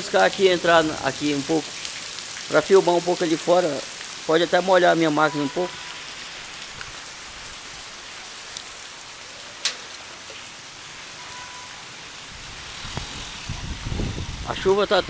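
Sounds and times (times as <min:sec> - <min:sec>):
heavy rain falling: 0:00.0 - 0:15.0
motorcycle engine on wet street: 0:00.0 - 0:15.0.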